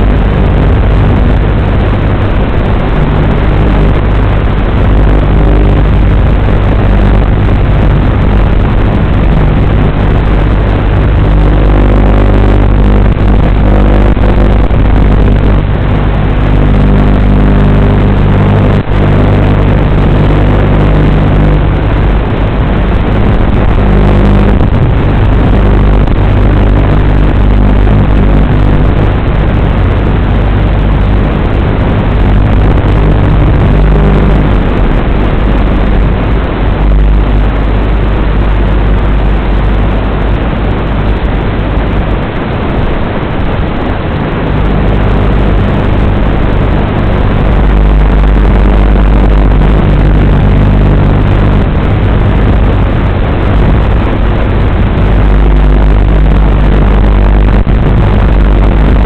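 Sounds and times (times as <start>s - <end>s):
rushing noise: 0.0s - 59.0s.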